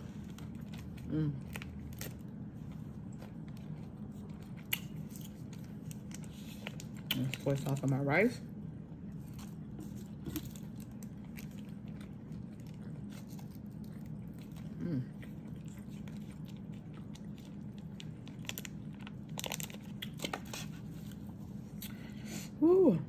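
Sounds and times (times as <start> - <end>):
chewing crispy food: 0.0 - 22.0
steady low hum: 0.0 - 23.0.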